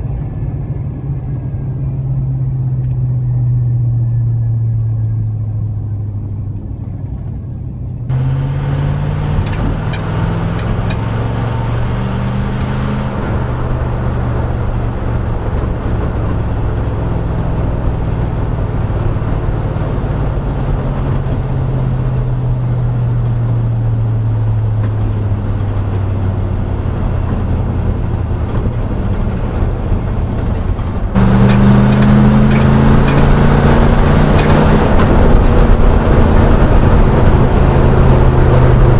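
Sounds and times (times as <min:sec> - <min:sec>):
truck exhaust drone: 0:00.0 - 0:38.9.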